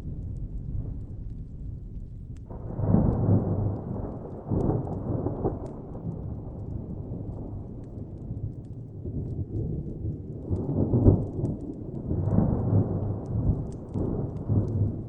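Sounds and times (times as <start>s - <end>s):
crackling fire: 0.0s - 15.0s
thunder rumbling: 0.0s - 15.0s.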